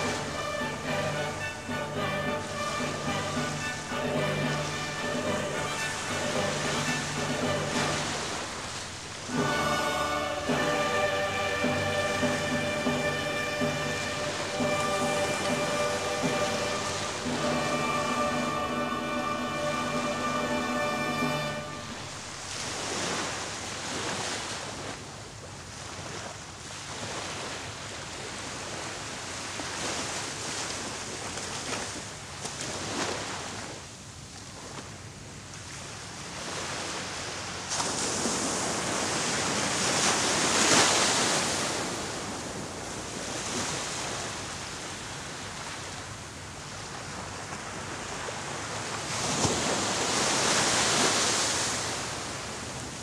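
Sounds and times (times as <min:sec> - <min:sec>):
small waves washing onto shore: 0:00.0 - 0:53.0.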